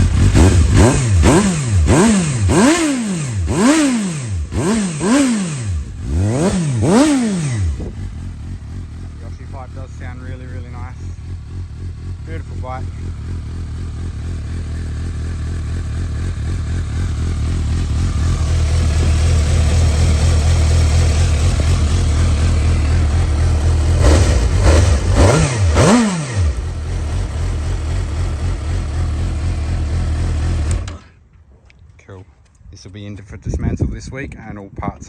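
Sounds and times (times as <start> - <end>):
motorcycle engine idling: 0.0 - 31.1
motorcycle engine revving: 0.0 - 31.2.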